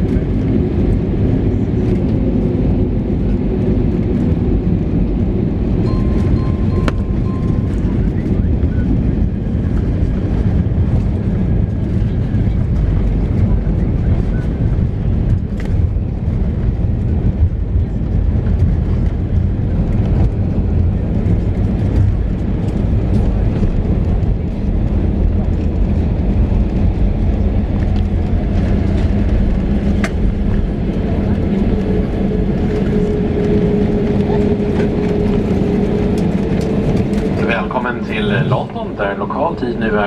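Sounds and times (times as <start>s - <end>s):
airplane cabin engine rumble: 0.0s - 40.0s.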